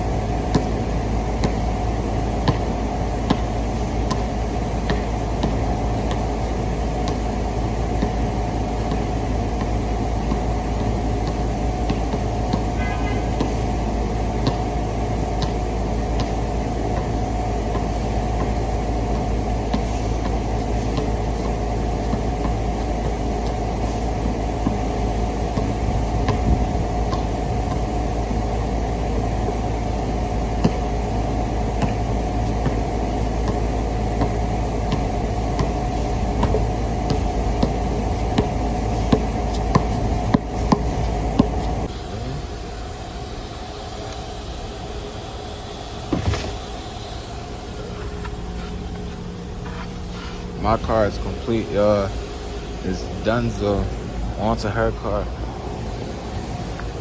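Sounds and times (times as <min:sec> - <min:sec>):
vacuum cleaner running: 0:00.0 - 0:49.1, 0:50.2 - 0:57.0.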